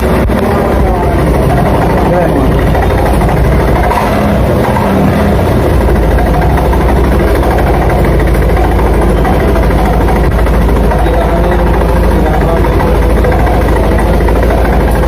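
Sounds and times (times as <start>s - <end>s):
scooter engine idling: 0.0s - 15.0s.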